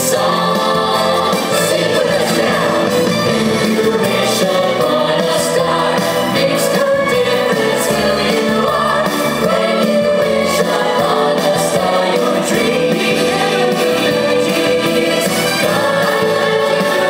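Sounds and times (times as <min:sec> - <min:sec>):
choir singing with accompaniment: 0:00.0 - 0:17.0.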